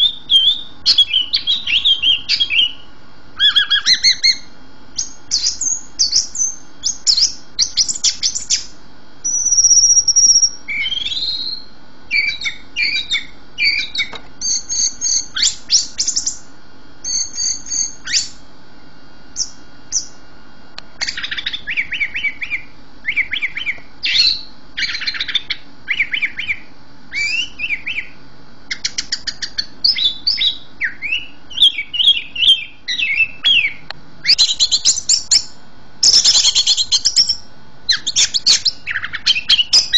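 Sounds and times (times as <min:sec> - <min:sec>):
songbird singing: 0:00.0 - 0:18.4, 0:19.4 - 0:20.2, 0:21.0 - 0:39.9.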